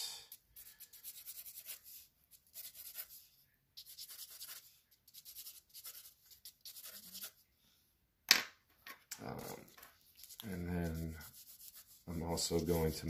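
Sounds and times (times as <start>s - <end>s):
pencil scratching on paper: 0.3s - 7.4s, 9.4s - 13.0s.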